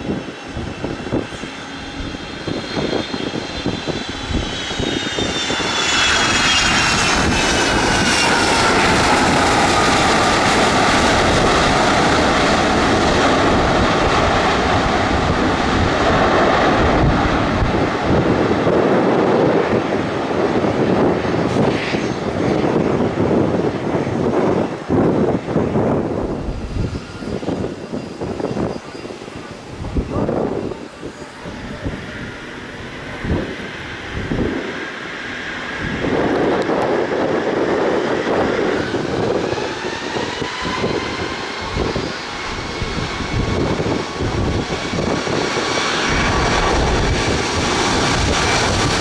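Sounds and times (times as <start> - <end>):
aircraft engine passing: 0.0 - 49.0.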